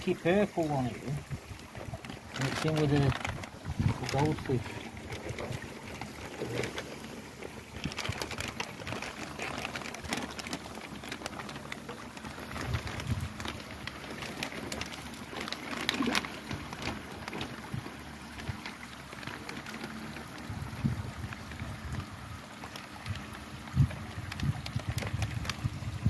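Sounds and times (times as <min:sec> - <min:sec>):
plastic bag crinkling: 0:00.0 - 0:20.5, 0:22.6 - 0:26.0
water sloshing and splashing: 0:00.0 - 0:26.0.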